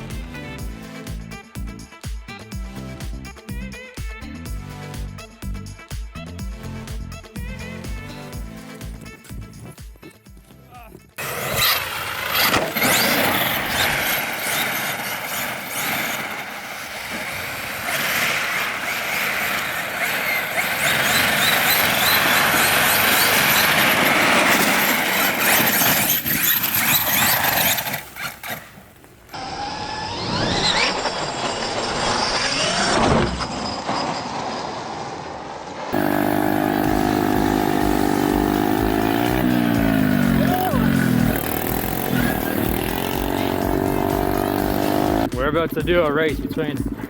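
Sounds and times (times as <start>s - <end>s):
rc car motor and tyres: 8.9s - 47.0s.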